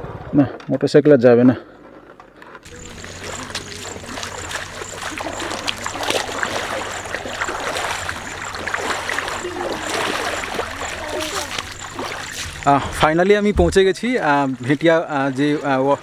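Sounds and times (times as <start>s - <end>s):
feet splashing through water: 2.6s - 16.0s.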